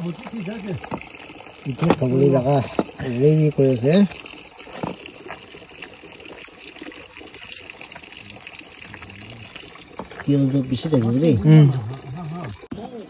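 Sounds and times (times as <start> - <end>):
water splashing in metal bowl: 0.0 - 13.0.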